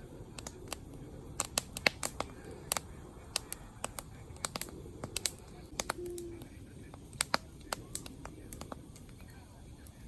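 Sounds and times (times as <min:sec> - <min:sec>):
campfire crackling and popping: 0:00.0 - 0:10.0
low rush of burning: 0:00.0 - 0:10.0.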